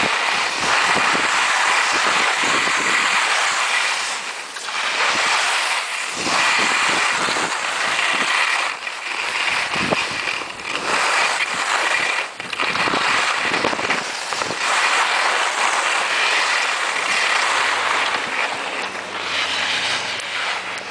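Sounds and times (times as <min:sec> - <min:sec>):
skis scraping over snow: 0:00.0 - 0:20.9.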